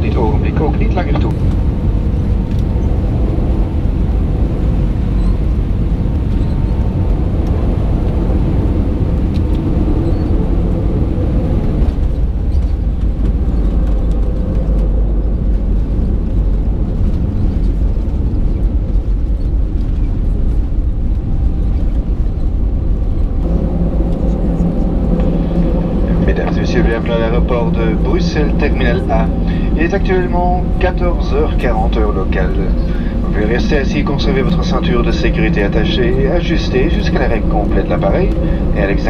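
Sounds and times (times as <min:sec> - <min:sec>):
airplane cabin airflow and engine: 0:00.0 - 0:39.0.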